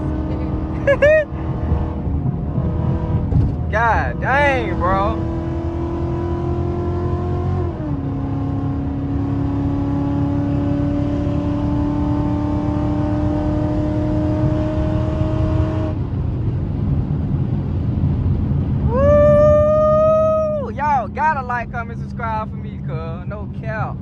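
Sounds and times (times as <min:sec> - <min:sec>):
car engine droning: 0:00.0 - 0:24.0
road rumble: 0:00.0 - 0:24.0.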